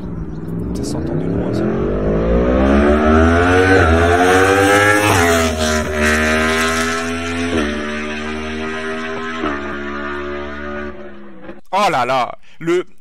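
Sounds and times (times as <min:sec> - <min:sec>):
motorcycle accelerating past: 0:00.0 - 0:11.6.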